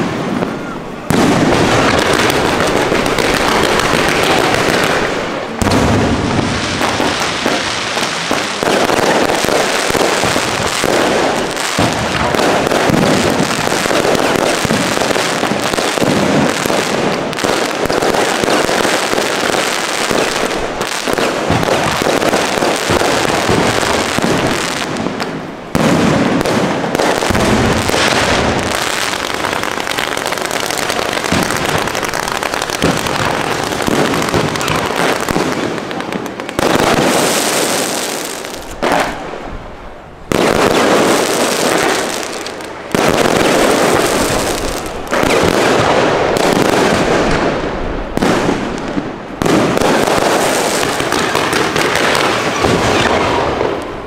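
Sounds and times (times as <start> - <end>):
fireworks launching and bursting: 0.0 - 54.0.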